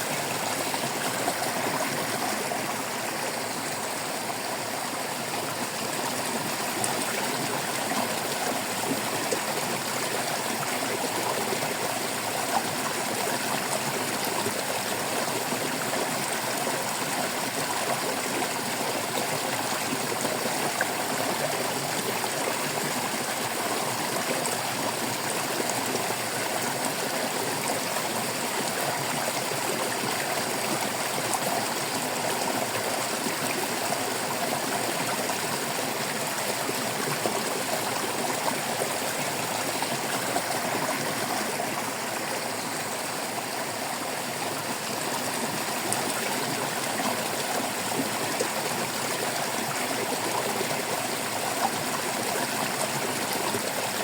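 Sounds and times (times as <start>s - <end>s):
water flowing over rocks: 0.0s - 54.0s.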